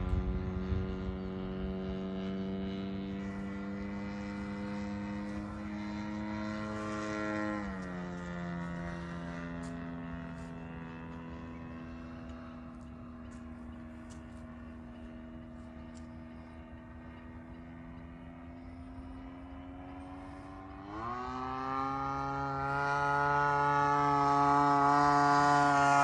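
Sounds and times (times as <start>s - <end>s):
model plane engine drone: 0.0s - 26.0s.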